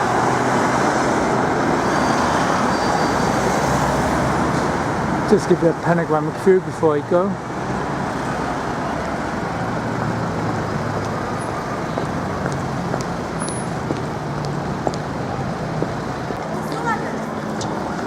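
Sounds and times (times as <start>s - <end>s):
car and bus engines: 0.0s - 18.0s
tyres on the road: 0.0s - 18.0s.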